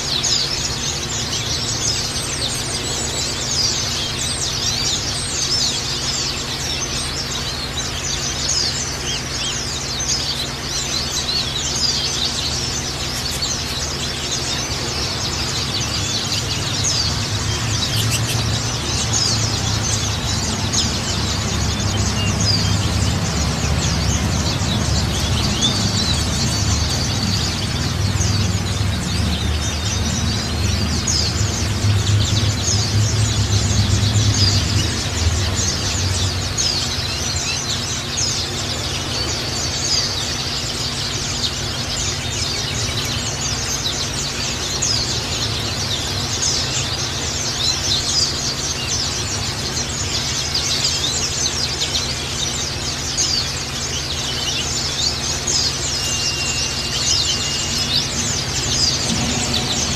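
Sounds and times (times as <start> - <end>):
birds chirping and twittering: 0.0 - 59.9
steady low hum: 0.0 - 59.9.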